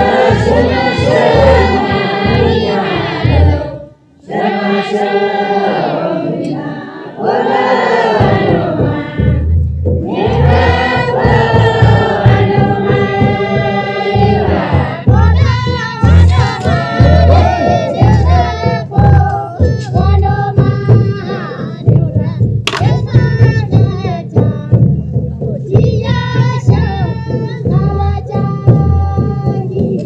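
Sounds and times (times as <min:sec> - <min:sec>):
chorus singing over a beat: 0:00.0 - 0:30.0.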